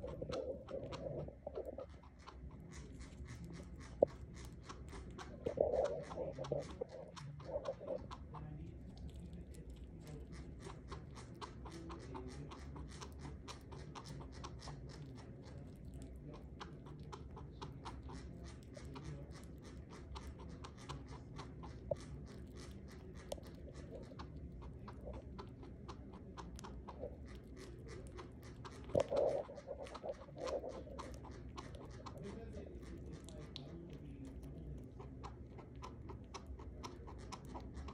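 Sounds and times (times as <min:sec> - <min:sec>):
chinchilla chewing: 0:00.0 - 0:37.9.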